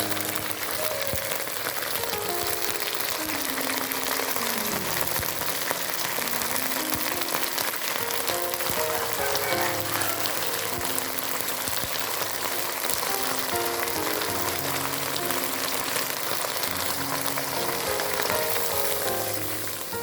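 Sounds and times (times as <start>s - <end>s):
background music melody: 0.0s - 20.0s
food frying sizzle: 0.0s - 20.0s.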